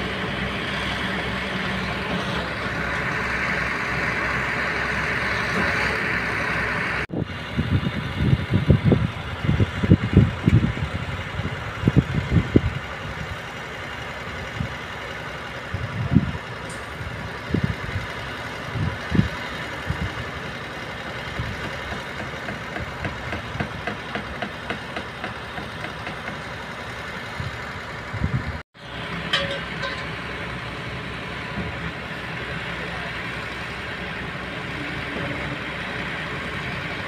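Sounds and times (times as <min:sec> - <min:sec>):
diesel engines running: 0:00.0 - 0:37.0.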